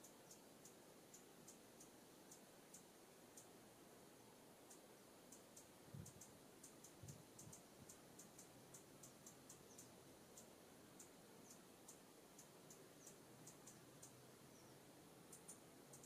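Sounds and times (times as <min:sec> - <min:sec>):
songbirds chip notes: 0:00.0 - 0:16.0.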